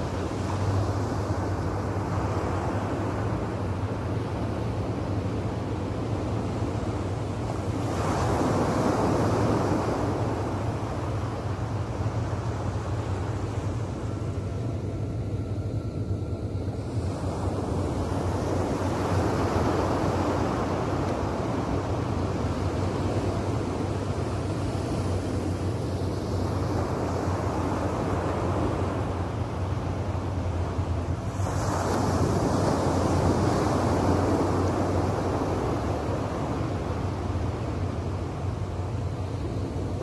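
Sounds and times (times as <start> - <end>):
waves breaking on a beach: 0.0 - 40.0
wind rumble on microphone: 0.0 - 40.0.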